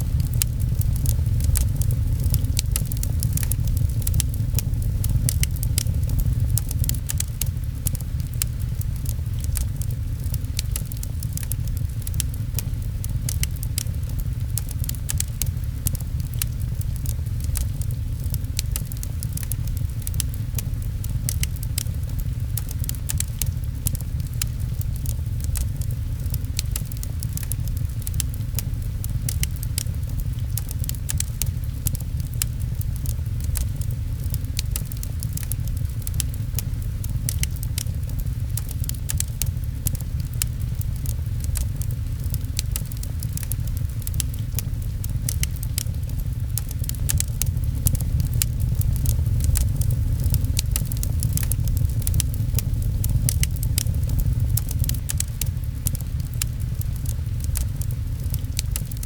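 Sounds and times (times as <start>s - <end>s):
fireplace fire crackling: 0.0s - 59.0s
rain pattering: 0.0s - 59.0s.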